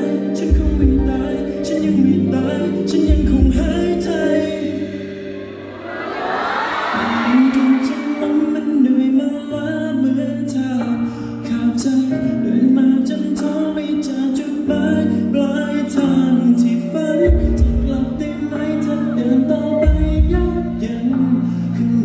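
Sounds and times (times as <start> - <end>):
pop song over sound system: 0.0 - 5.8, 6.6 - 22.0.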